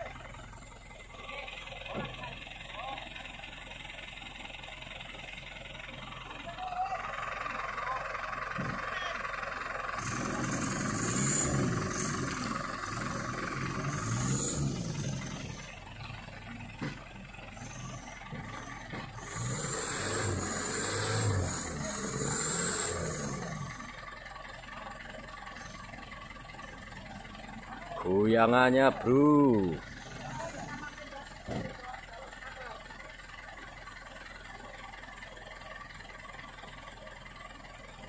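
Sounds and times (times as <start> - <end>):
diesel truck engine revving: 0.0 - 32.9.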